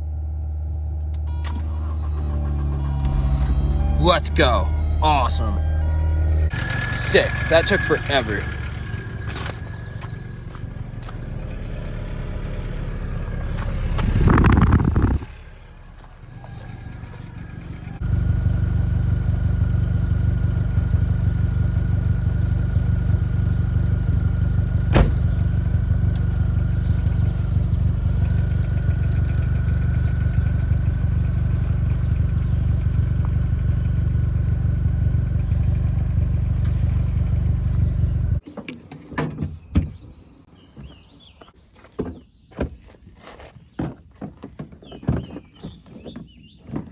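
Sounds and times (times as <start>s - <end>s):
car engine rumbling: 0.0s - 38.4s.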